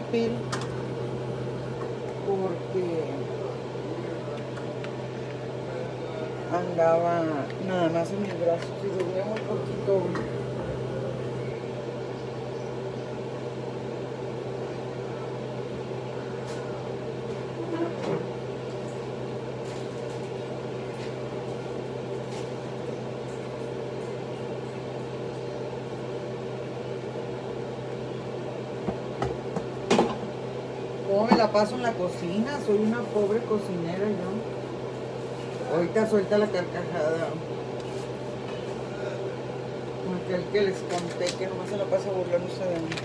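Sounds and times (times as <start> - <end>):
range hood fan humming: 0.0 - 43.0.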